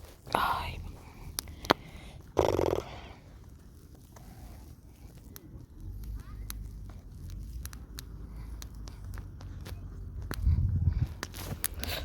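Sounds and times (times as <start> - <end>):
campfire crackling and popping: 0.0 - 12.0
low steady rumble: 0.0 - 12.0.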